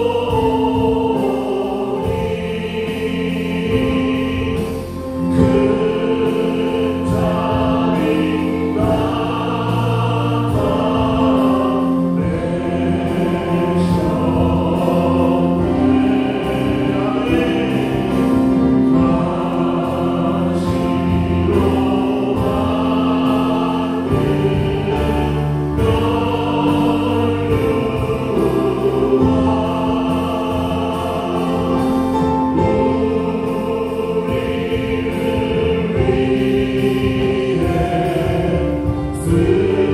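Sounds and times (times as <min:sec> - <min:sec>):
band playing slow hymn: 0:00.0 - 0:39.9
group of voices singing: 0:00.0 - 0:39.9.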